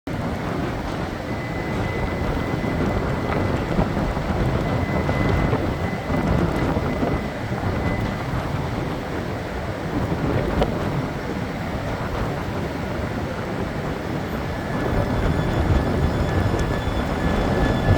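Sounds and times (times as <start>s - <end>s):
train rumbling: 0.1s - 17.9s.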